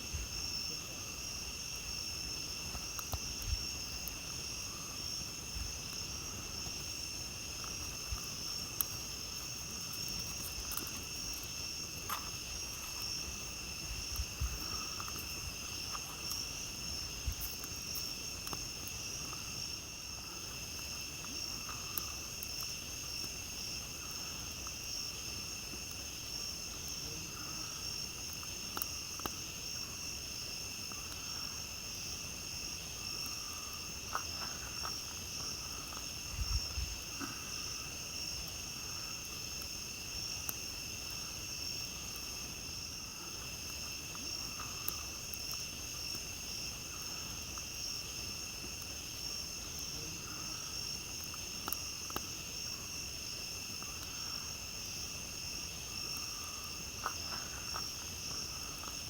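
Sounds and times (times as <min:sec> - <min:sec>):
night insects trilling: 0:00.0 - 0:59.0
campfire crackling and popping: 0:00.1 - 0:59.0.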